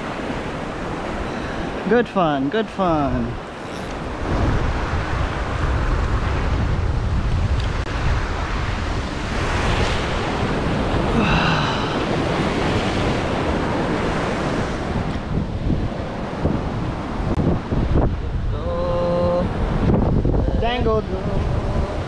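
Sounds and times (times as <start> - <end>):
ocean surf breaking on rocks: 0.0 - 22.0
wind buffeting microphone: 2.9 - 22.0.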